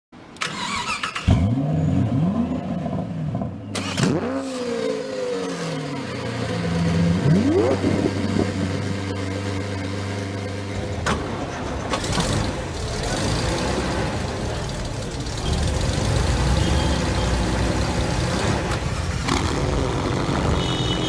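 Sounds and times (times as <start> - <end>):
vehicle engine revving: 0.7 - 21.0.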